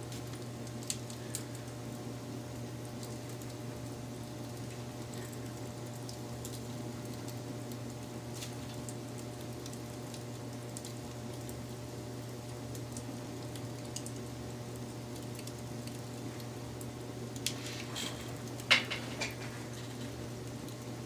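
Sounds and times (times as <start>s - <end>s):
constant low hum: 0.0s - 21.0s
wood fire crackling: 0.0s - 21.0s.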